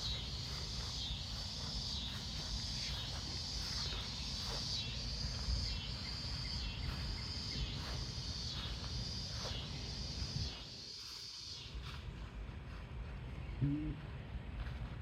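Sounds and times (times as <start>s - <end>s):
insects chirping: 0.0s - 12.2s.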